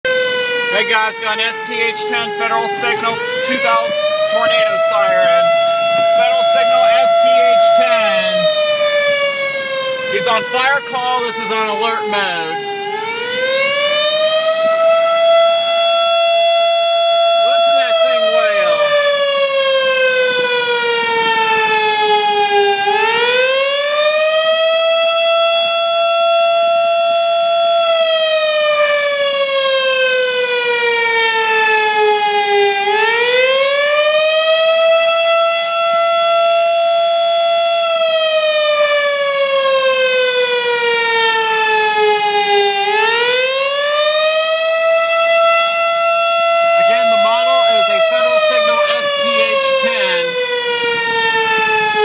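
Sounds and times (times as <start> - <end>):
warning siren wailing: 0.0 - 52.0.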